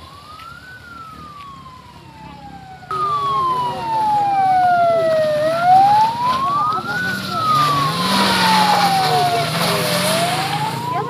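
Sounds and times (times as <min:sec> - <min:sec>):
ambulance siren wailing: 0:00.0 - 0:11.0.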